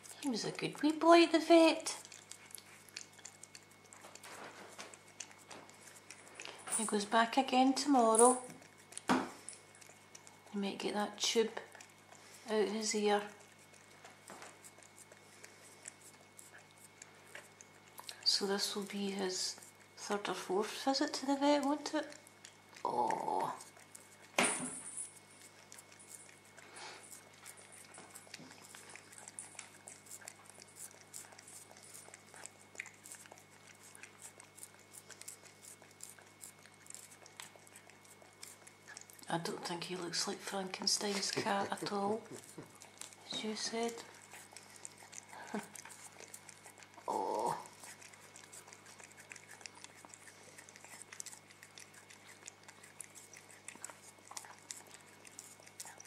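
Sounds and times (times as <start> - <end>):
cat lapping and smacking: 0.0 - 56.0.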